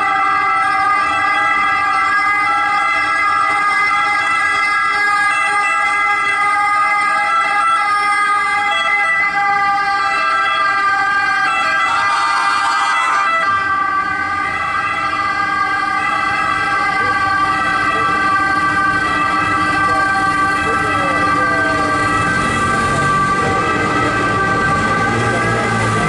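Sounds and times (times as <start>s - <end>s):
ambulance sirens wailing: 0.0s - 26.0s.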